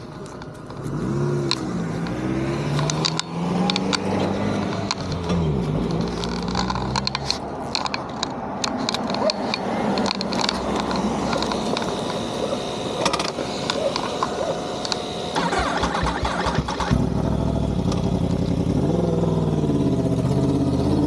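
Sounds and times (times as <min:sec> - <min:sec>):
steady noise: 0:00.0 - 0:17.1
sharp clicks and rattles: 0:00.0 - 0:17.2
motorcycle engine: 0:00.0 - 0:21.0.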